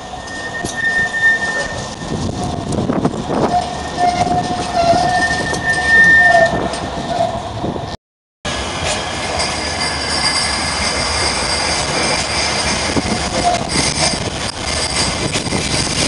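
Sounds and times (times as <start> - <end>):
high-pitched wheel squeal: 0.0 - 2.7, 3.4 - 7.5, 9.2 - 16.0
tram rumble: 0.0 - 16.0.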